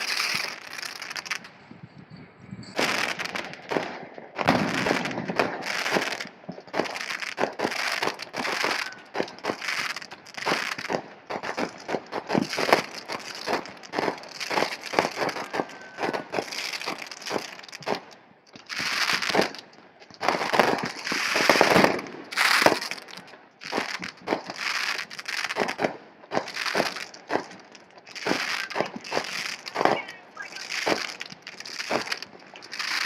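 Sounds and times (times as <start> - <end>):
fireworks crackling: 0.0 - 1.8, 2.6 - 33.0.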